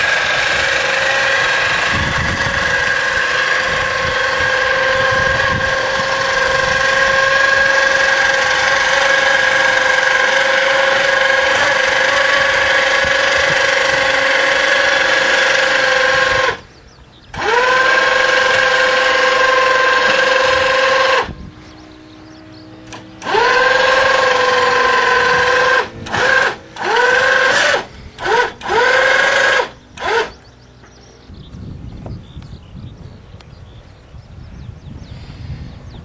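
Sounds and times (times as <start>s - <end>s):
electric motor whining: 0.0s - 30.8s.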